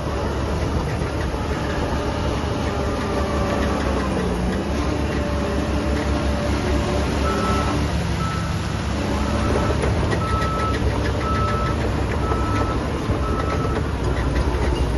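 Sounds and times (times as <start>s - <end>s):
diesel machinery engine drone: 0.0s - 14.9s.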